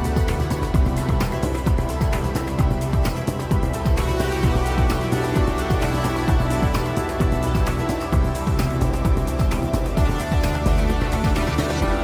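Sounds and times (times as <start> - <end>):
electronic music: 0.0 - 12.0
kick drum beat: 0.0 - 12.0.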